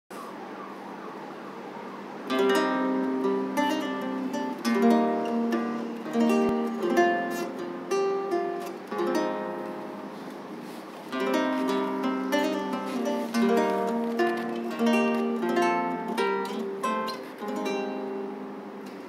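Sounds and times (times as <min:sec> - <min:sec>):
faint background noise: 0:00.1 - 0:19.0
lute plucked chords: 0:02.3 - 0:19.0.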